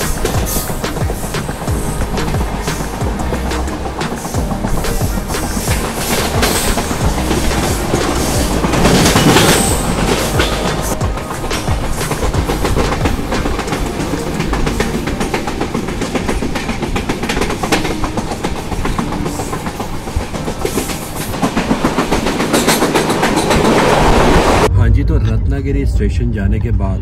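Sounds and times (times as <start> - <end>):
train wheels clattering over rails: 0.0 - 24.7.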